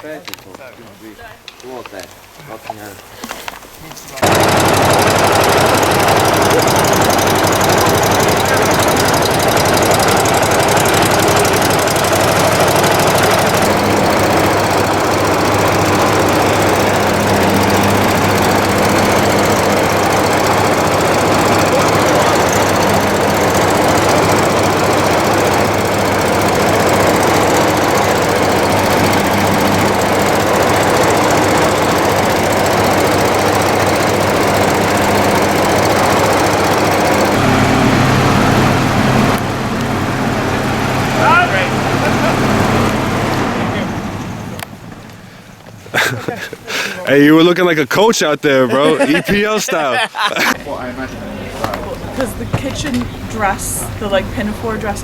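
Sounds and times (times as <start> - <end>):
engine running steadily: 4.2 - 47.2, 50.4 - 55.0.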